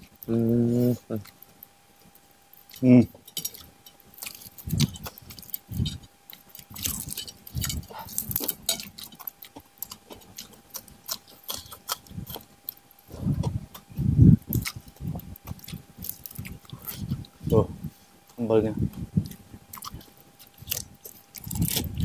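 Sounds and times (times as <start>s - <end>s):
people chewing and smacking: 0.0s - 22.0s.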